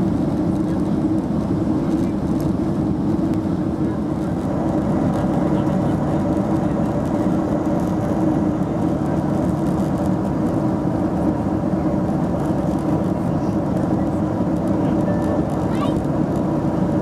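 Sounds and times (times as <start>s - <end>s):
jet engines droning: 0.0s - 17.0s.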